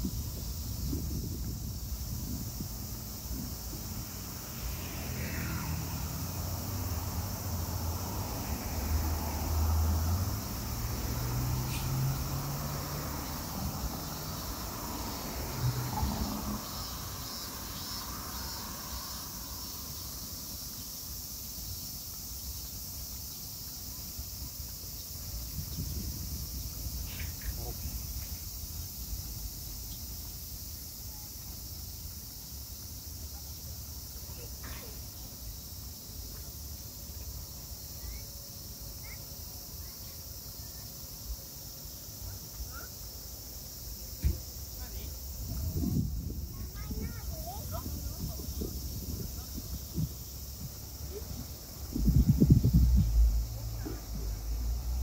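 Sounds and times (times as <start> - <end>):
cicadas singing: 0.0 - 55.0.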